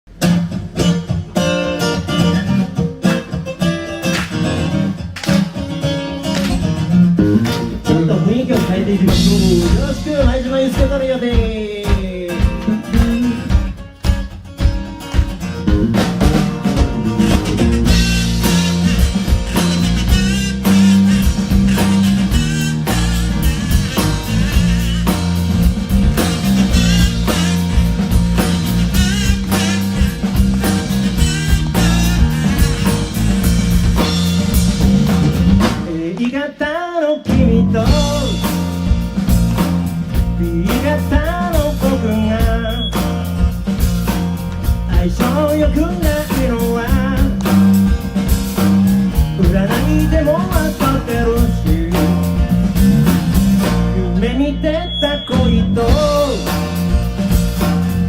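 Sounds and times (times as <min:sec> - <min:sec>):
guitar strumming chords: 0:00.1 - 0:36.5, 0:37.3 - 0:58.0
drum kit: 0:00.1 - 0:36.6, 0:37.2 - 0:58.0
electric bass line: 0:06.3 - 0:10.9, 0:14.7 - 0:36.1, 0:37.3 - 0:58.0.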